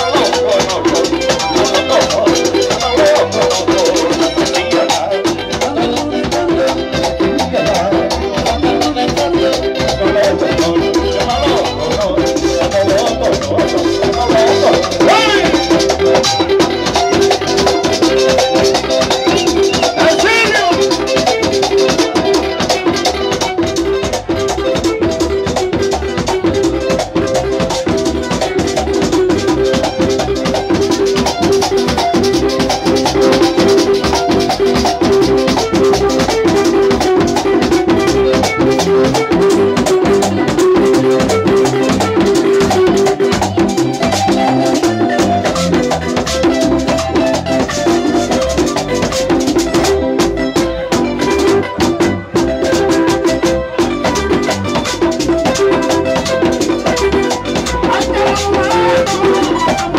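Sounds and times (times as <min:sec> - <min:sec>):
latin dance band music: 0:00.0 - 0:59.9.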